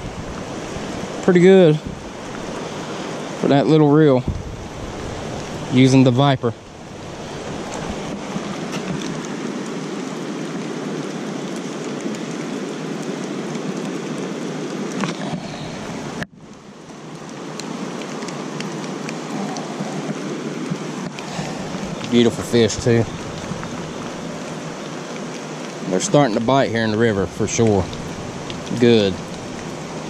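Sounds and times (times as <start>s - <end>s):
flowing river water: 0.0s - 30.0s
rain hiss: 0.0s - 30.0s.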